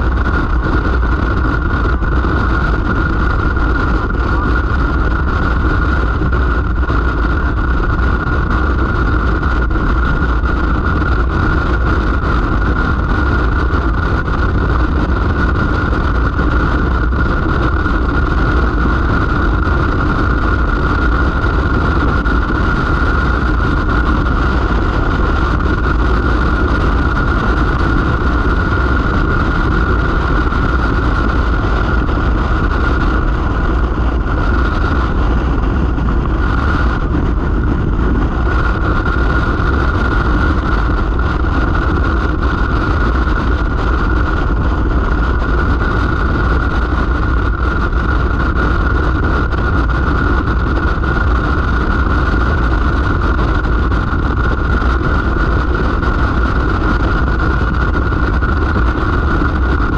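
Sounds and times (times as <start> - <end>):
steady high whine: 0.0 - 59.9
vehicle engine and road noise: 0.0 - 59.9.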